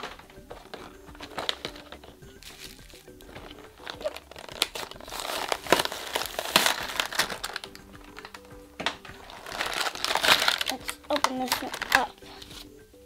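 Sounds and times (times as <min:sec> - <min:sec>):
plastic packaging crinkling: 0:00.0 - 0:12.7
background music with held notes: 0:00.0 - 0:13.0.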